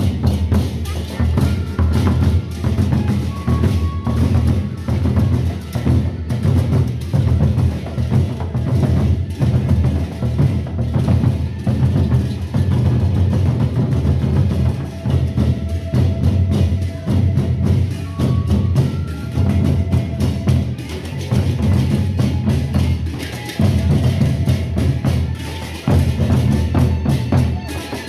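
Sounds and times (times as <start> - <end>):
barrel drums beaten in rhythm: 0.0 - 28.0.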